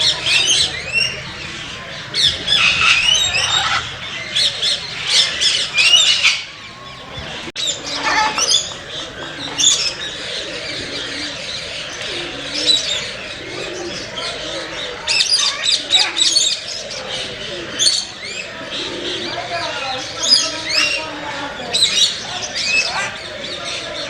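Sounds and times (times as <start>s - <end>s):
birds squawking and chattering: 0.0s - 24.0s.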